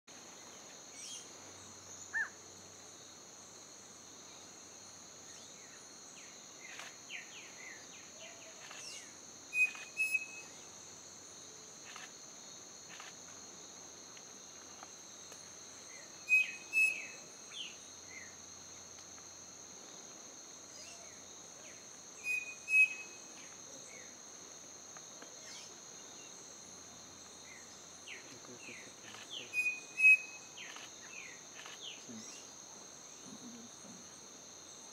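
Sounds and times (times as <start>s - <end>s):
high hum of insects: 0.1s - 34.9s.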